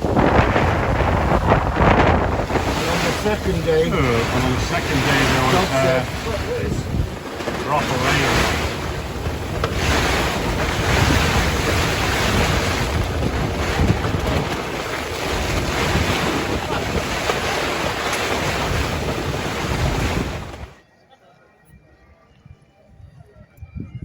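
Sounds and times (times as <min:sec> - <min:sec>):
sea waves washing: 0:00.0 - 0:20.8
wind buffeting microphone: 0:00.0 - 0:20.8, 0:21.8 - 0:24.0.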